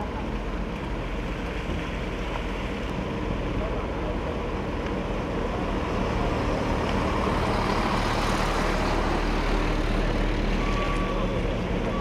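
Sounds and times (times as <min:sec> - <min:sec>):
diesel dump trucks driving past: 0:00.0 - 0:12.0.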